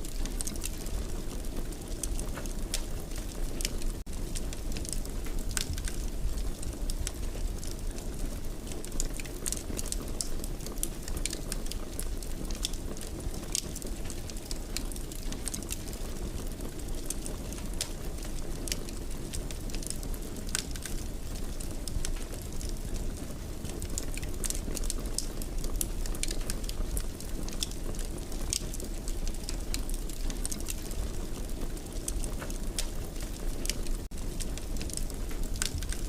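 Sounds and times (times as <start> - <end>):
low rumble of flames: 0.0 - 36.0
wood fire crackling: 0.0 - 36.0.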